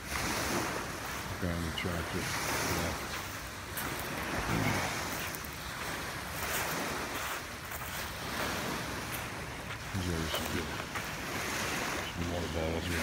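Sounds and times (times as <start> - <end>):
waves washing onto shore: 0.0 - 13.0
wind buffeting microphone: 0.0 - 13.0.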